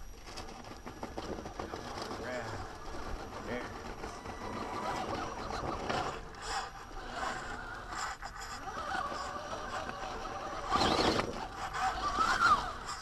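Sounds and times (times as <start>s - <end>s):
motor and gears whining: 0.0s - 13.0s
tires scraping on rock: 0.2s - 13.0s.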